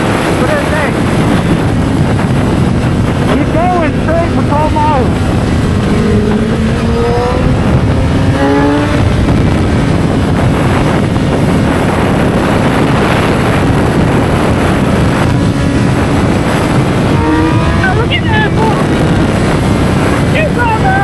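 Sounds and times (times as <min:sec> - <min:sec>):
motorcycle engine accelerating: 0:00.0 - 0:21.0
wind rush over microphone: 0:00.0 - 0:21.0.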